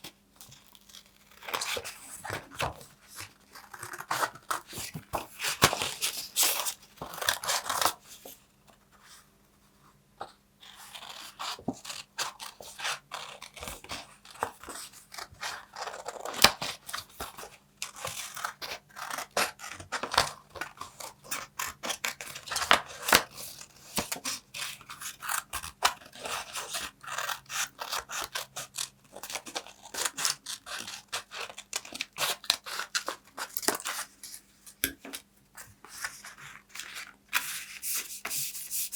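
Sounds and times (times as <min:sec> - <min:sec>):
scissors cutting paper: 0:00.4 - 0:08.0, 0:10.6 - 0:34.4.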